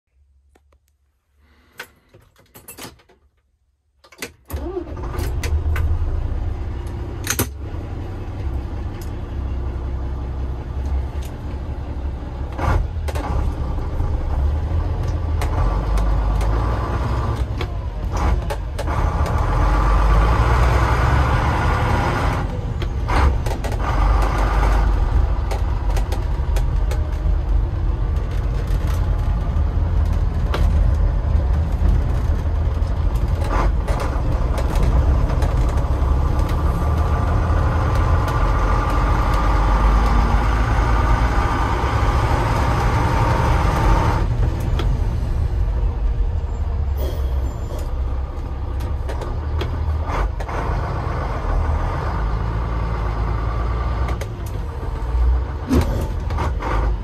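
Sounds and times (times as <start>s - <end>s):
diesel truck engine rumbling: 4.5s - 57.0s.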